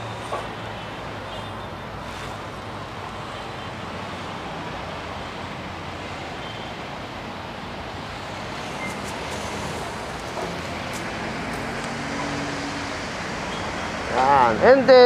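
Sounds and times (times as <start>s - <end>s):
road traffic rumble and hiss: 0.0s - 15.0s.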